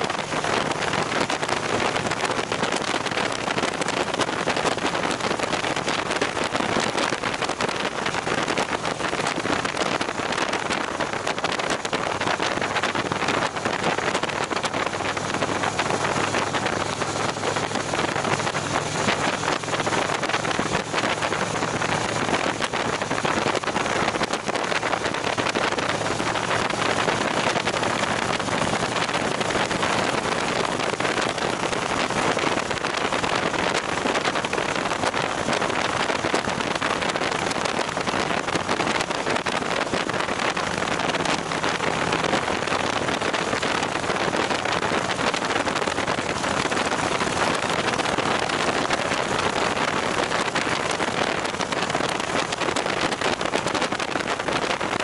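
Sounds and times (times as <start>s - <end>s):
motorcycle engine humming: 0.0s - 55.0s
wind and road noise: 0.0s - 55.0s.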